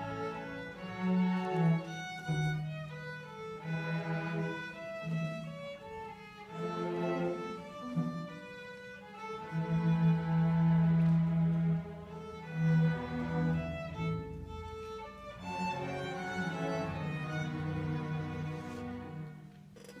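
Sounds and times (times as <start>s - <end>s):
low cello notes: 0.0s - 20.0s
violins playing melody: 0.0s - 20.0s.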